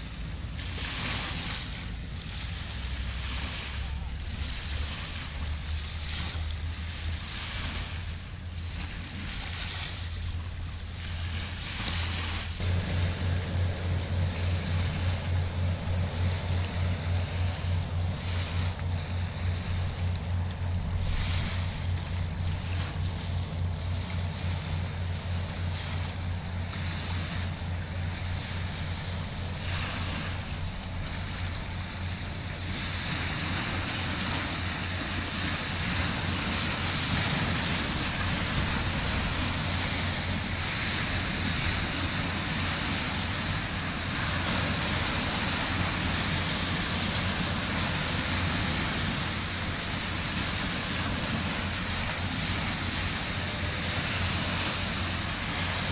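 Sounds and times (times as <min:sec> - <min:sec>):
boat engine throbbing: 0:00.0 - 0:55.9
water noise: 0:00.0 - 0:55.9
wind on microphone: 0:00.0 - 0:55.9.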